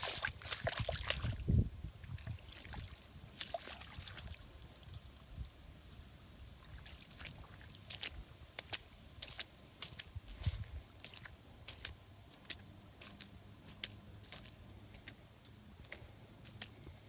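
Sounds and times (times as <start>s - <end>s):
footsteps splashing through water and mud: 0.0s - 5.5s, 6.5s - 17.0s.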